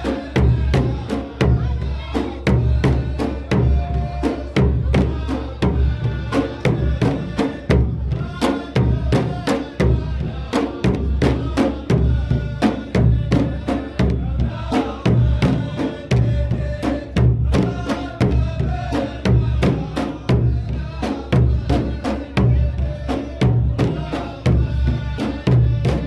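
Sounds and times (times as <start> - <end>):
drums beating driving rhythm: 0.0 - 26.0
men chanting in unison: 0.0 - 26.0.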